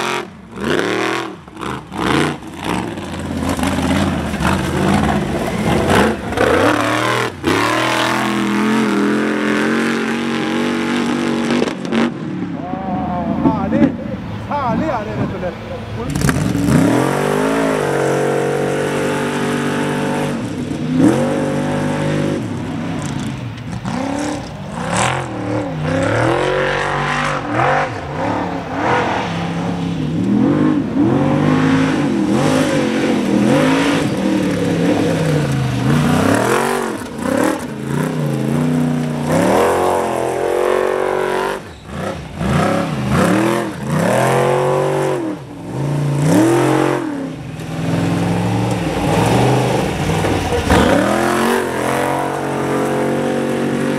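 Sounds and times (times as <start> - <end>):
buggy engine revving hard: 0.0 - 14.0, 15.9 - 53.9.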